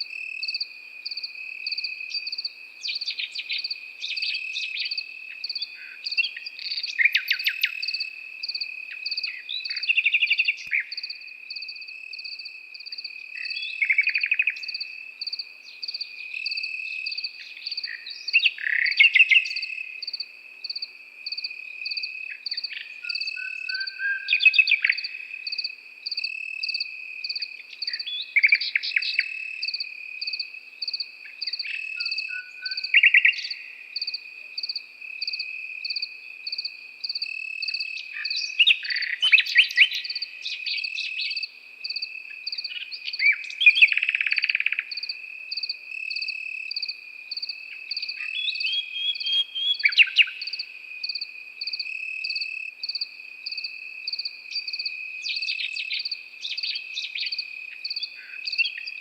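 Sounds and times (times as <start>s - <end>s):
crickets chirping: 0.0s - 59.0s
nightingale singing: 0.0s - 59.0s.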